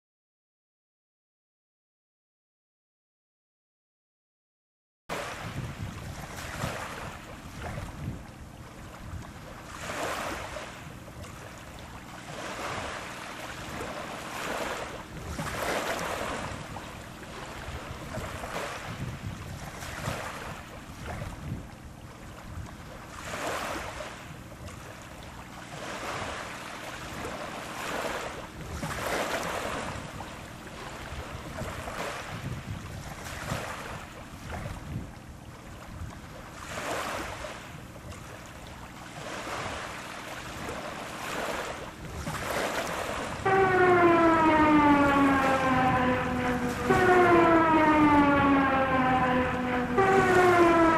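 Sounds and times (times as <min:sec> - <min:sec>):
waves washing in: 0:05.1 - 0:50.9.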